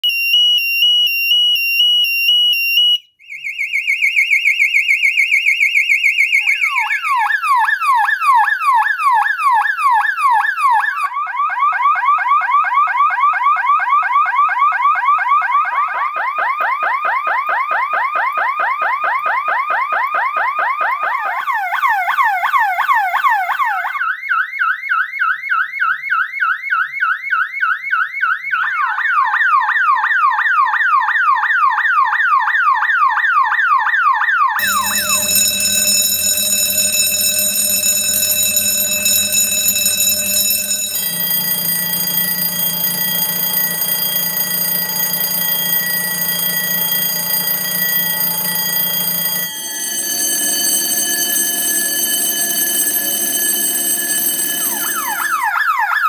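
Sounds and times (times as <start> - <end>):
burglar alarm sirens wailing: 3.4 - 56.0.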